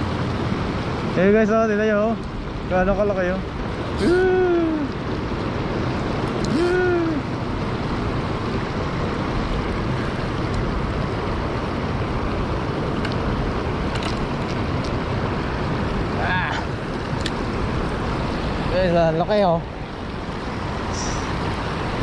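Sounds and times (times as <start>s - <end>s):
river water rushing over concrete: 0.0s - 22.0s.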